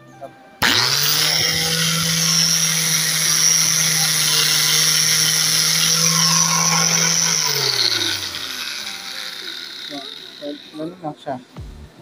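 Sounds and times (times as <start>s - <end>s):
angle grinder whining: 0.6s - 11.0s.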